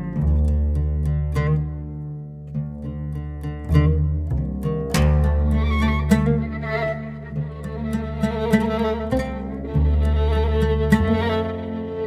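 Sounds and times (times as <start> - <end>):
picked string instrument melody: 0.0 - 12.0.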